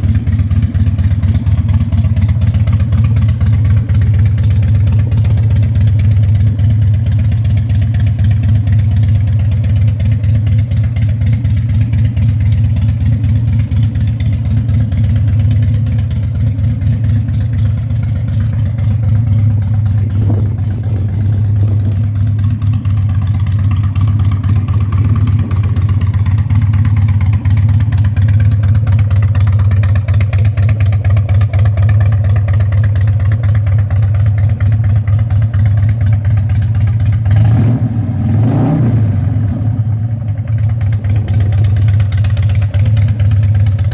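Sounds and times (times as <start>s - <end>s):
motorcycle engine idling: 0.0s - 38.2s, 39.0s - 43.9s.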